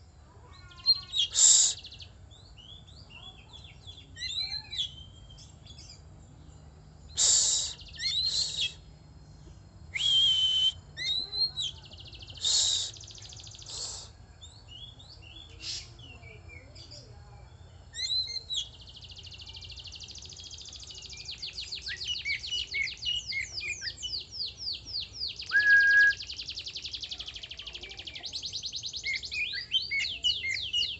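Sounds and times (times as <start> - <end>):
bird singing: 0.0 - 30.9.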